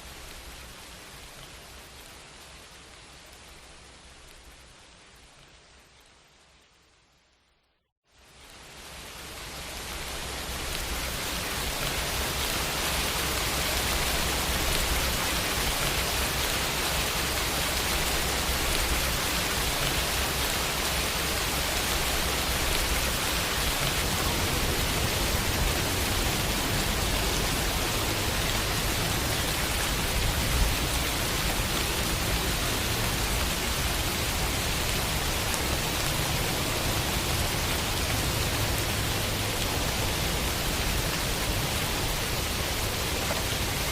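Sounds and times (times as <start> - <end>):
rain falling on a window: 0.0 - 7.3, 8.1 - 43.9.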